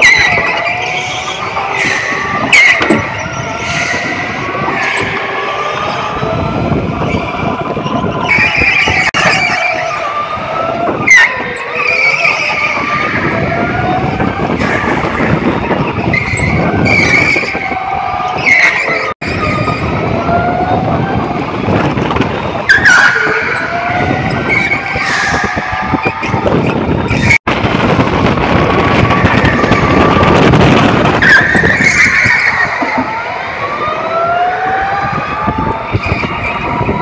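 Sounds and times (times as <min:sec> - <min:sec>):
electric go-kart motors whining: 0:00.0 - 0:37.0
tires squealing: 0:00.0 - 0:37.0.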